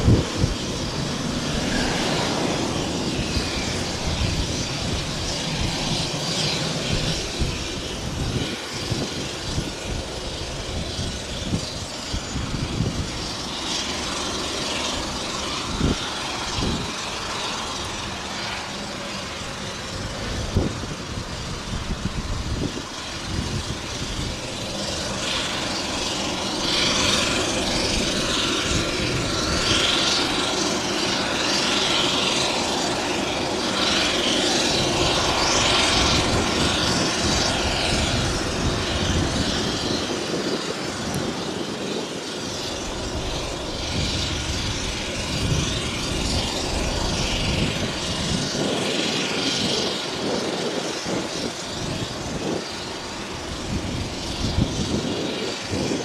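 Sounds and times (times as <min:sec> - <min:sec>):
turboprop engine running: 0:00.0 - 0:56.0.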